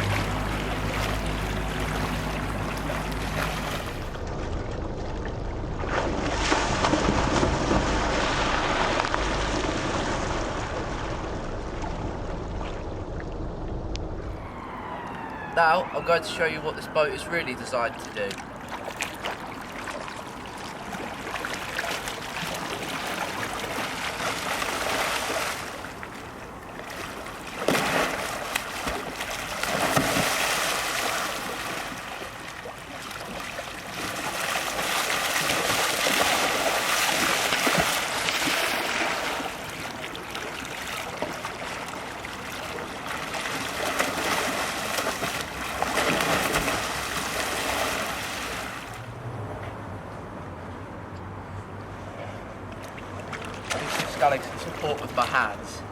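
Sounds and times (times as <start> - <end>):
water splashing around kayak: 0.0 - 49.2, 52.0 - 55.9.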